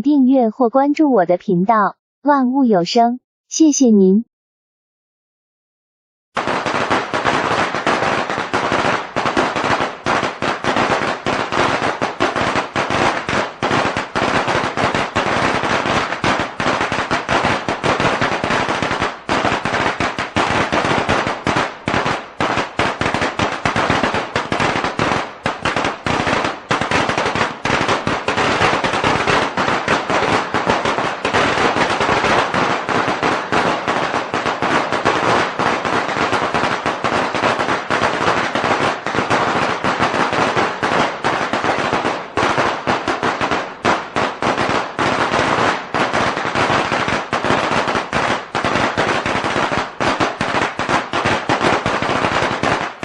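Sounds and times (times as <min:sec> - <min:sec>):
firecrackers crackling: 0:06.4 - 0:53.0.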